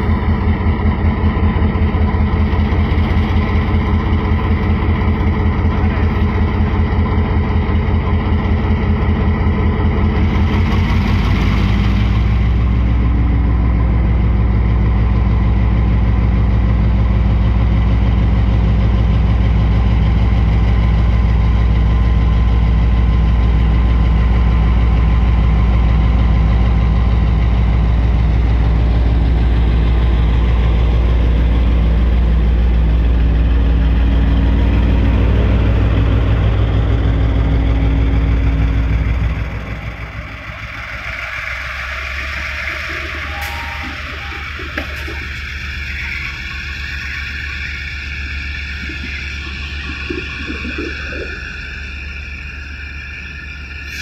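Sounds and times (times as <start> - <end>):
locomotive engine throbbing: 0.0 - 54.0.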